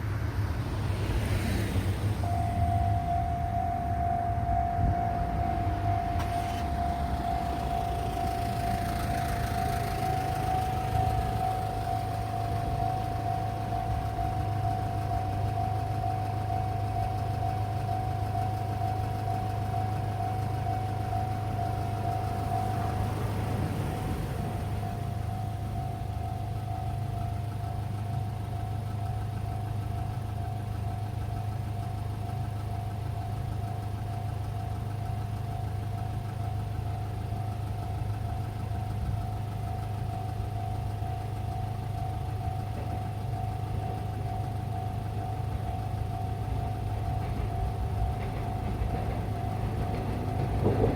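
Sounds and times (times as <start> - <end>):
low engine hum: 0.0 - 50.9
level crossing warning bell: 2.2 - 50.9.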